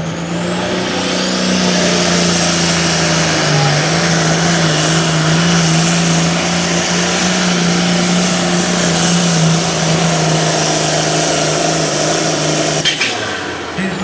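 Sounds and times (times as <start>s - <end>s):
tractor diesel engine at high revs: 0.0s - 14.0s.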